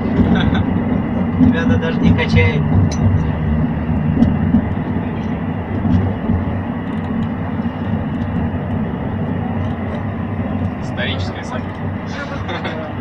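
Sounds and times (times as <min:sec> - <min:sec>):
low rumble of rail vehicle cabin: 0:00.0 - 0:13.0.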